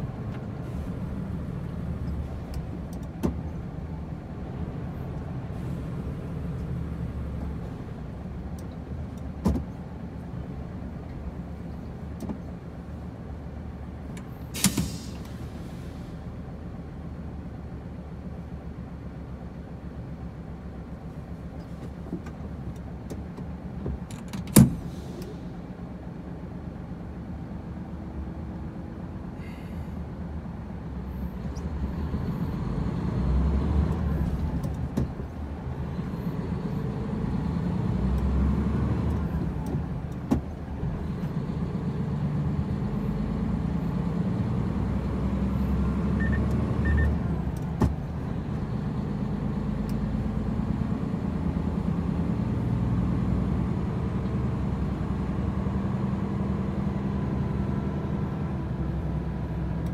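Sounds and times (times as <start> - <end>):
road noise: 0.0 - 59.9
truck diesel engine: 0.0 - 59.9.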